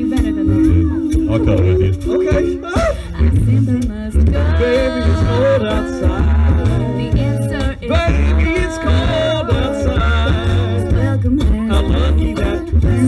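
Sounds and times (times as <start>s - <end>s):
a cappella group singing: 0.0s - 13.0s.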